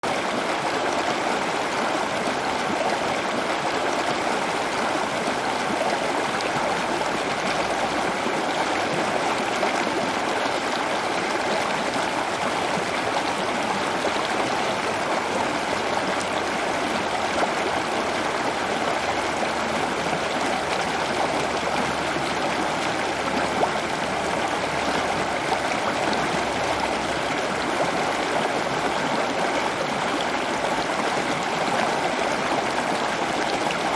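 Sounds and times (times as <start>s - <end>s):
water rushing: 0.4s - 33.9s.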